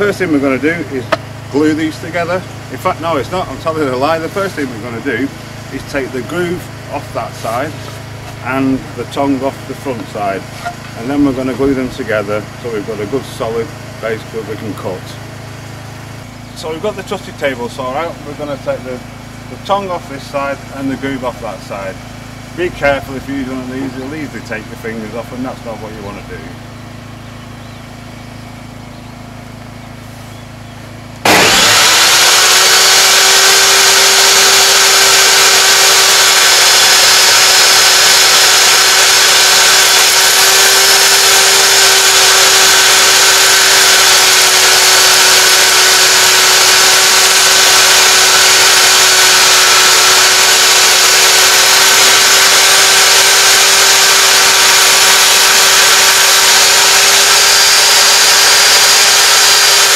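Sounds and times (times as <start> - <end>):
table saw running: 0.0 - 27.0, 31.0 - 59.9.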